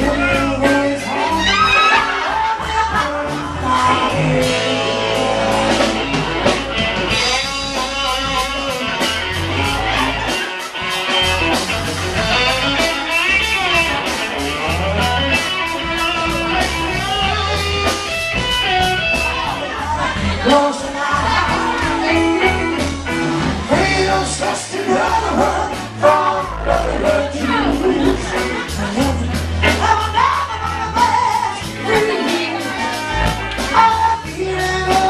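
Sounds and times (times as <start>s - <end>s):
bass guitar: 0.0s - 35.0s
drums steady beat: 0.0s - 35.0s
electric guitar: 0.0s - 35.0s.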